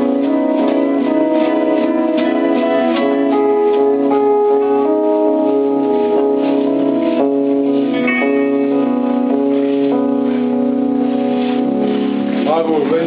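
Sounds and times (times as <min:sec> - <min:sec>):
held keyboard chords: 0:00.0 - 0:13.0.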